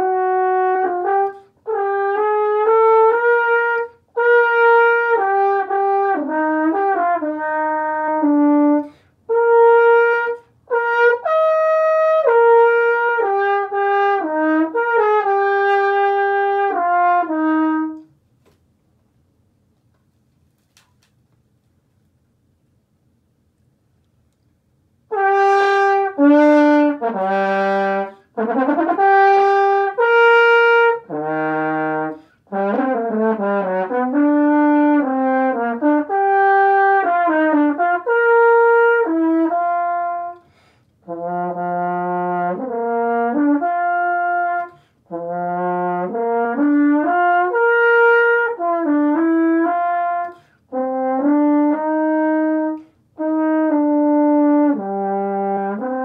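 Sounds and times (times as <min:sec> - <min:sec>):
french horn melody: 0:00.0 - 0:18.2, 0:25.0 - 0:56.0.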